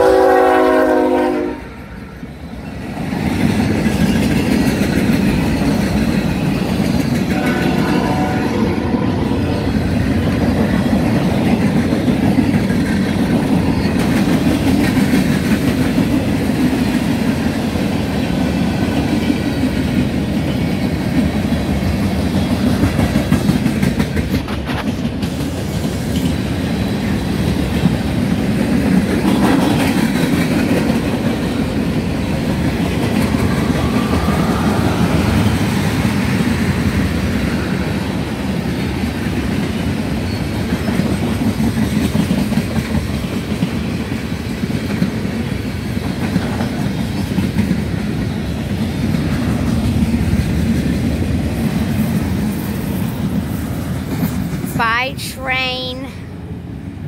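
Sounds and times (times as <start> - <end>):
steel wheels rumbling on rail: 0.0 - 54.7
clickety-clack over rail joints: 2.8 - 54.7.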